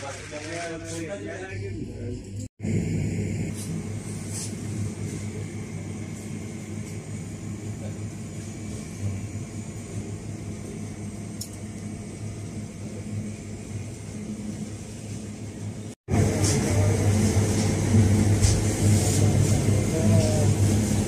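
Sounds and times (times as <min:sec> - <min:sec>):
low machinery hum: 0:01.1 - 0:21.0.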